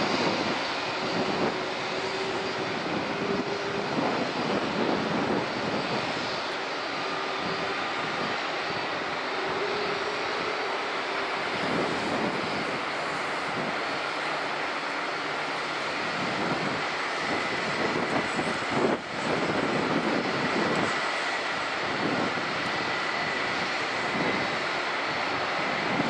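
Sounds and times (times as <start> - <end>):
jet engines at taxi power: 0.0 - 26.0.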